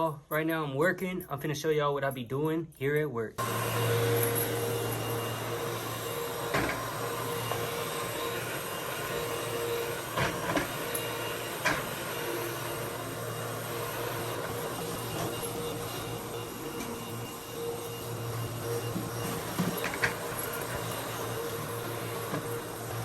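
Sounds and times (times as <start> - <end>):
vacuum cleaner running: 3.4 - 23.0.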